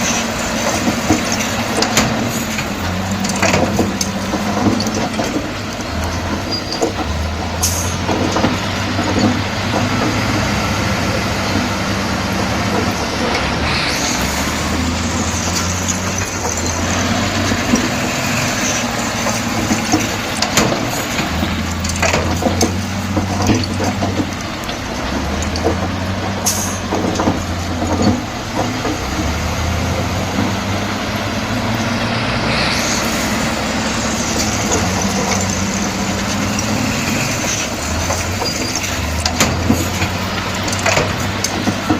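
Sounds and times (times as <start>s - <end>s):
diesel machine engine: 0.0s - 41.9s
metal clanks: 0.0s - 41.9s.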